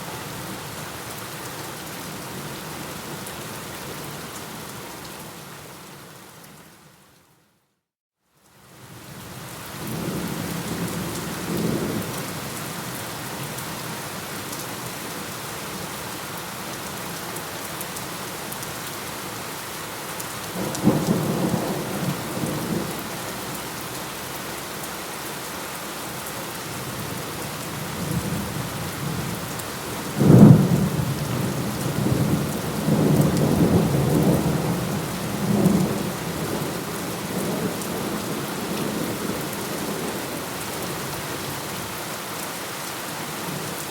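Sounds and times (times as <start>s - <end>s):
heavy rain: 8.4s - 43.9s.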